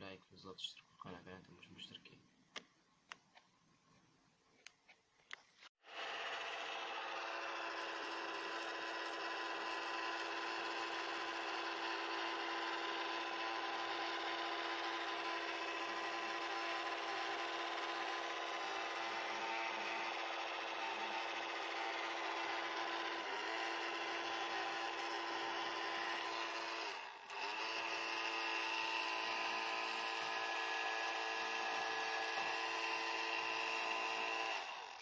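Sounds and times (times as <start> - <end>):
small electric motor humming: 5.8 - 35.0.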